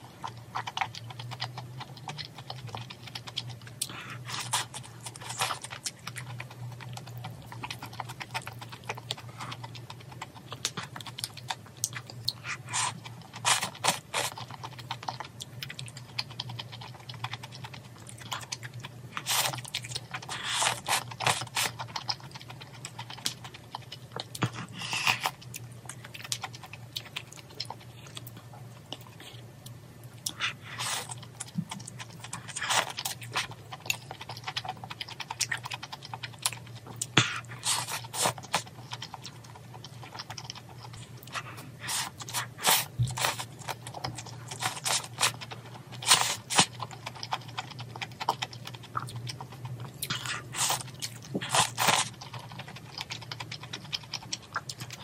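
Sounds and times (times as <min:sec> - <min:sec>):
chewing food: 0:00.0 - 0:55.0.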